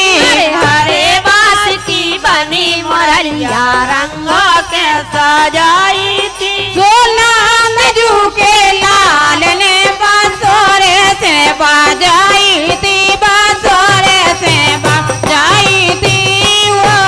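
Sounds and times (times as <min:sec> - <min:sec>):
women singing folk song: 0:00.0 - 0:17.0.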